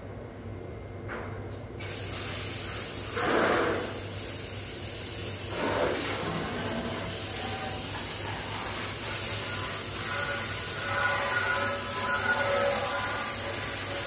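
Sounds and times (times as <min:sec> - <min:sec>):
hose water spraying on metal: 0:01.8 - 0:14.0.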